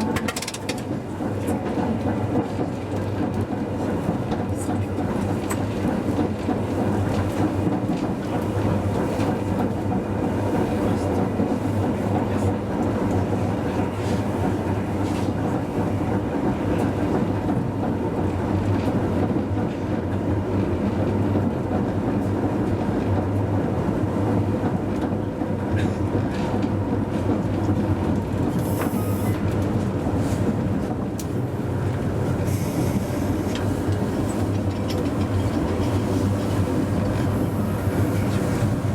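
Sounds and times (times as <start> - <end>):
tram motor and gear hum: 0.0 - 38.9.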